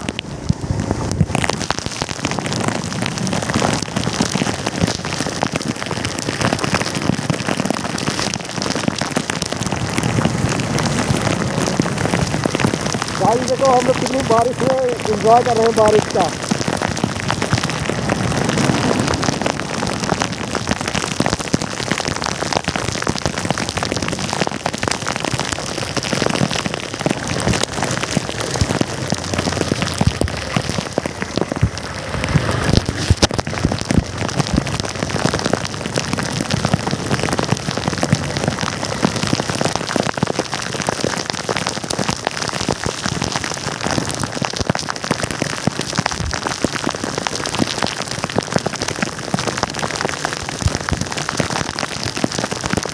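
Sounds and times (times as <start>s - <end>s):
heavy rain patter: 0.0s - 52.9s.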